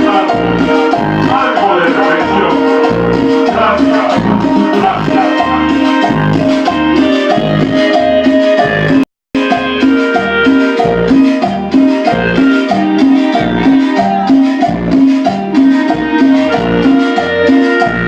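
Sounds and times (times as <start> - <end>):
loud cumbia dance music: 0.0 - 18.0.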